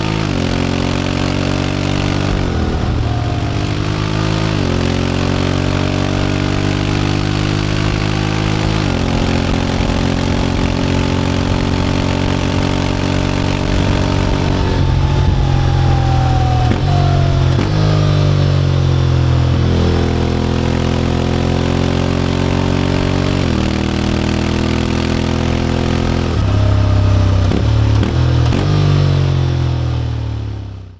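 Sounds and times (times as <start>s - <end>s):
motorcycle engine revving: 0.0s - 30.7s.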